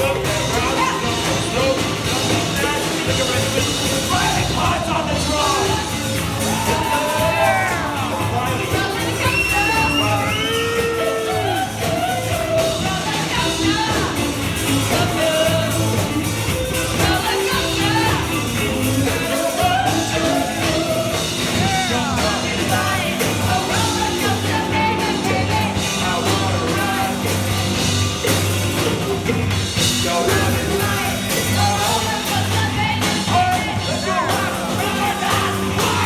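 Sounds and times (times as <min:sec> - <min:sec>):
live rock band playing: 0:00.0 - 0:36.0
person singing: 0:00.0 - 0:36.0
pulsing bass line: 0:00.0 - 0:36.0.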